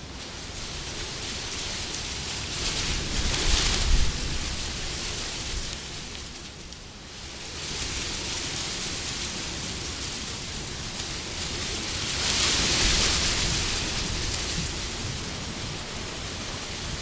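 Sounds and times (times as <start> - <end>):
wind blowing in gusts: 0.1 - 17.0.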